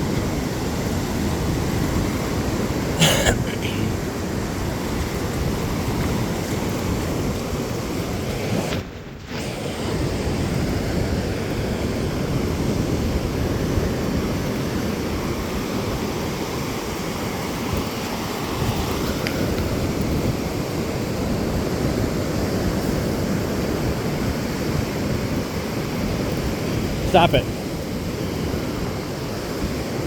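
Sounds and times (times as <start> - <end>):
ocean surf washing: 0.0 - 30.0
wind buffeting microphone: 0.0 - 30.0.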